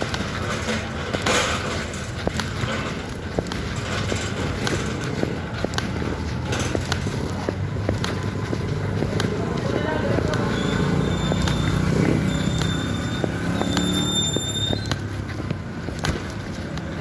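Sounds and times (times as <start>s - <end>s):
motorcycle engine and road rumble: 0.0s - 17.0s.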